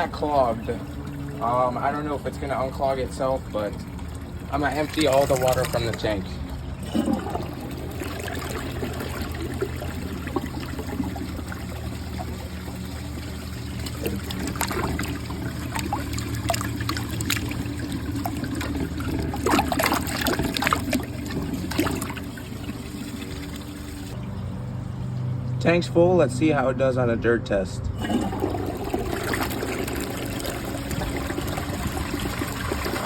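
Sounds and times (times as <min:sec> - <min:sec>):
short sharp water sounds: 0:00.0 - 0:24.3, 0:28.0 - 0:33.0
water trickling in toilet: 0:00.0 - 0:24.4, 0:28.0 - 0:33.0.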